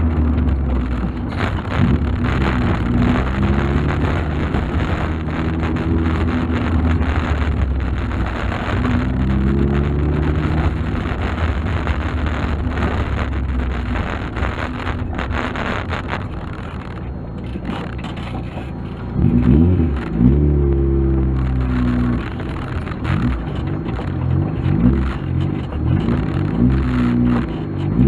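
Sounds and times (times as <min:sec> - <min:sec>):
car engine accelerating: 0:00.0 - 0:28.0
road noise: 0:00.0 - 0:28.0.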